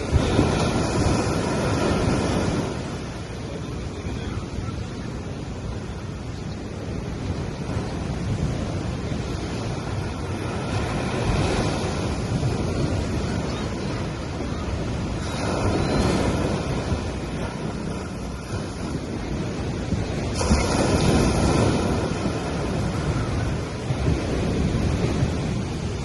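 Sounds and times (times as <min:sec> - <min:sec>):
small waves breaking on beach: 0:00.0 - 0:26.0.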